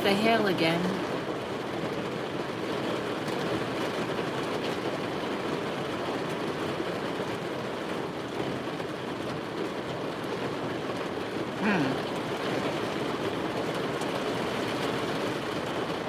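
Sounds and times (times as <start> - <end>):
hail and rain on vehicle roof: 1.1 - 16.0.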